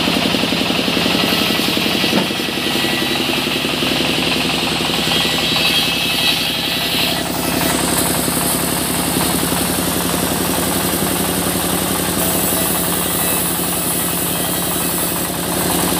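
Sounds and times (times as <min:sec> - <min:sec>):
sawmill engine running: 0:00.0 - 0:15.9.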